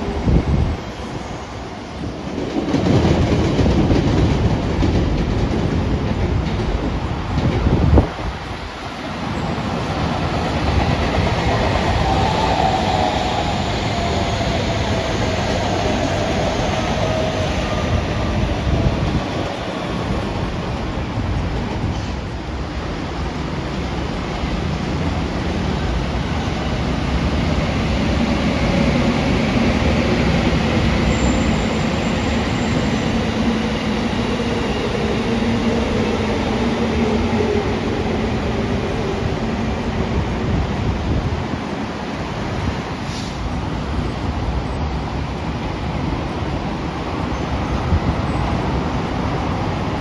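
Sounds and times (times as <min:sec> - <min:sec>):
train rumbling past: 0:00.0 - 0:50.0.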